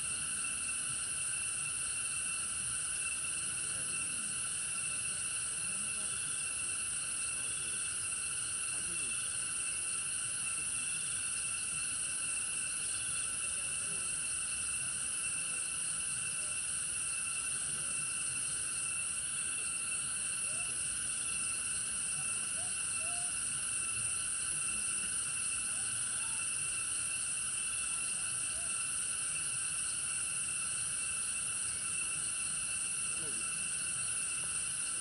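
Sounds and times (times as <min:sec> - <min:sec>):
faint short insect chirps: 0:00.0 - 0:35.0
high-pitched insect drone: 0:00.0 - 0:35.0.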